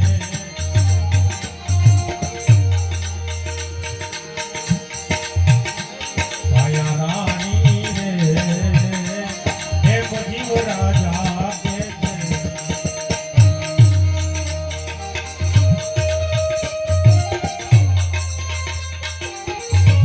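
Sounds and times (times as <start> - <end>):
hand drum beating: 0.0 - 20.0
jingling percussion: 0.0 - 20.0.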